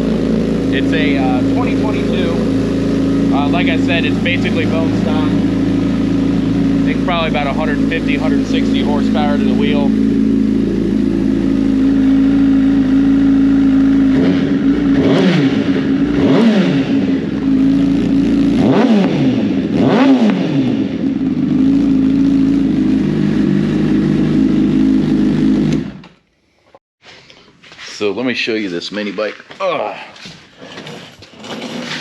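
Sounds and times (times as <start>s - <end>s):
car engine idling and revving: 0.0s - 26.1s.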